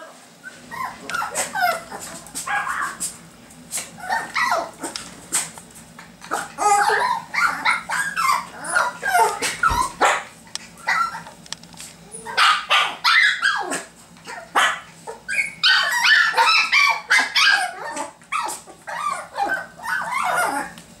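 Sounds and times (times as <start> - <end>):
puppies yapping and whining: 0.0 - 3.2, 3.8 - 5.5, 6.2 - 11.4, 12.0 - 20.8.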